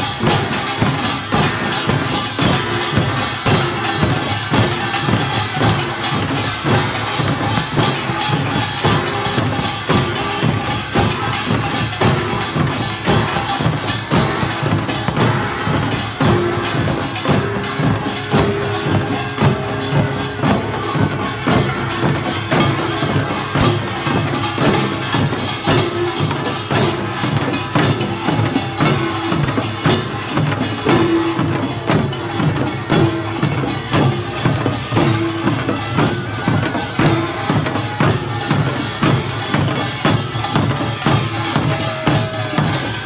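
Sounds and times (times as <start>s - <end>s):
drums beating fast rhythm: 0.0s - 43.0s.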